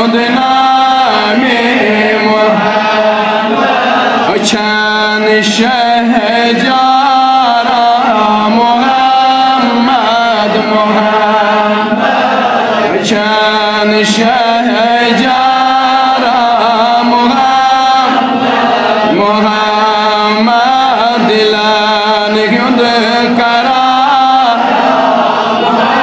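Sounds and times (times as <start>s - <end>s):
man chanting: 0.0s - 12.0s, 12.8s - 24.7s.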